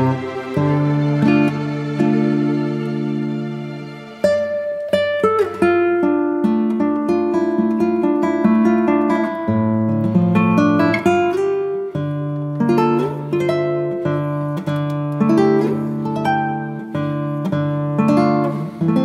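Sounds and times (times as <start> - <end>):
plucked acoustic guitar music: 0.0 - 19.0.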